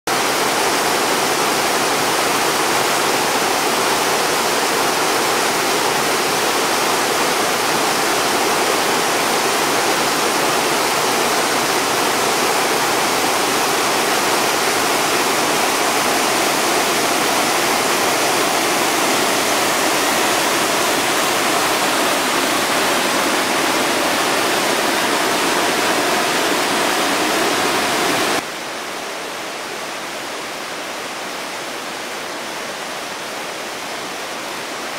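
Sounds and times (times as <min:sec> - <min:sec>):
river rapids rushing: 0:00.1 - 0:34.9.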